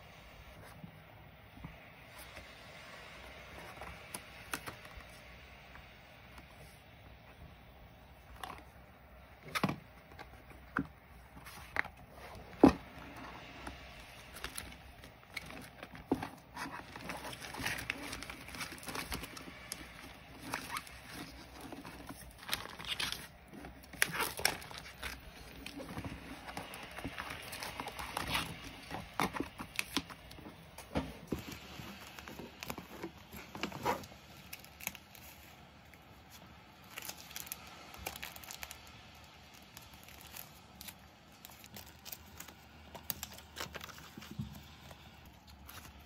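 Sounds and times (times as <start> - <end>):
plastic sheets rustling: 8.1 - 46.0.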